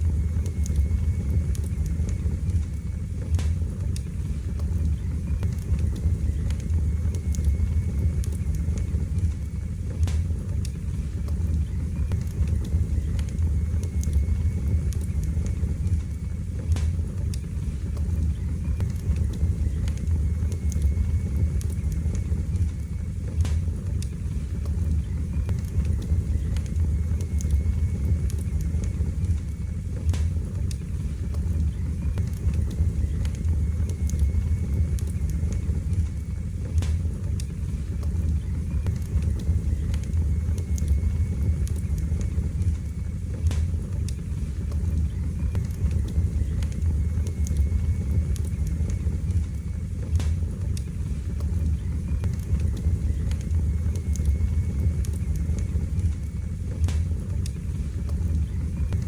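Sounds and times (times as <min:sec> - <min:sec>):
fire crackling and popping: 0:00.0 - 0:59.0
fire flames roaring: 0:00.0 - 0:59.0.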